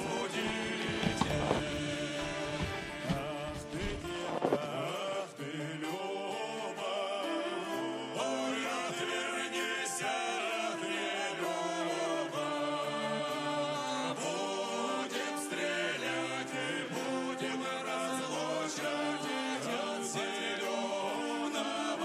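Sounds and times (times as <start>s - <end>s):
song with singing voices: 0.0s - 22.0s.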